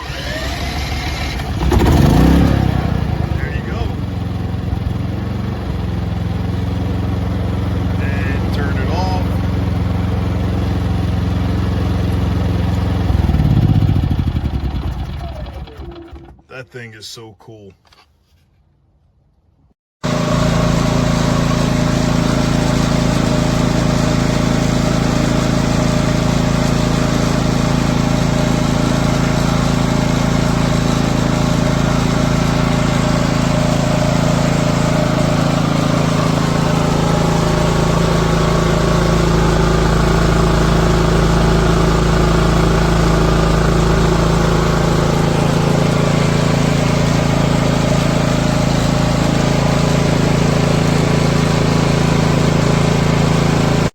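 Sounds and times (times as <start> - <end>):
portable generator engine running: 0.0 - 16.6, 20.0 - 53.9.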